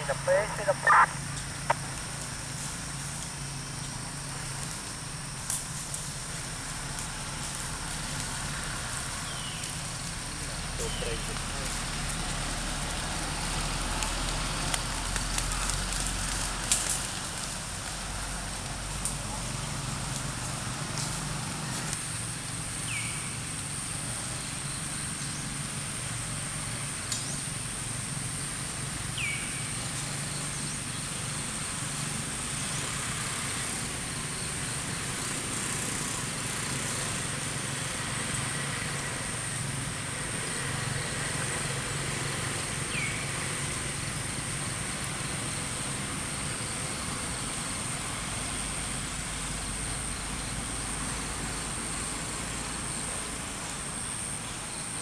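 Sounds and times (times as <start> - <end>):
insect drone: 0.0 - 55.0
low engine hum: 0.0 - 55.0.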